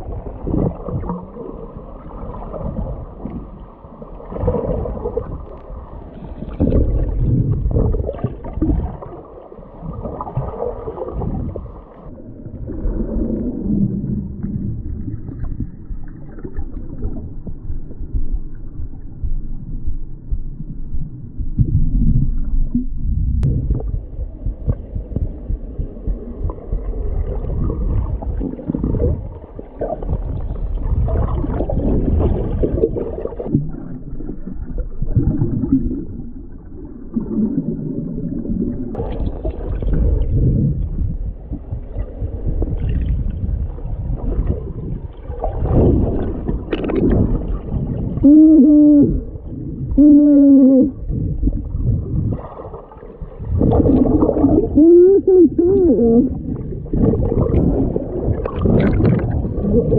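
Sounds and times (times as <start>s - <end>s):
underwater river rumbling and gurgling: 0.0s - 59.9s.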